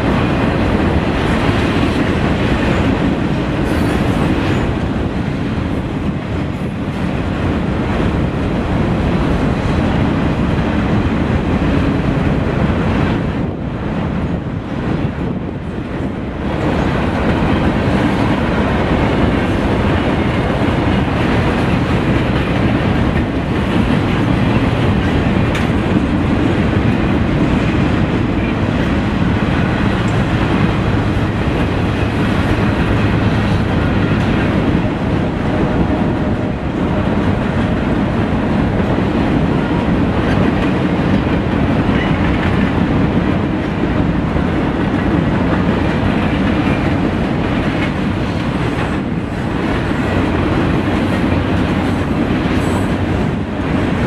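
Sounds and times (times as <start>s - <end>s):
steel wheels running on rails: 0.0s - 54.0s.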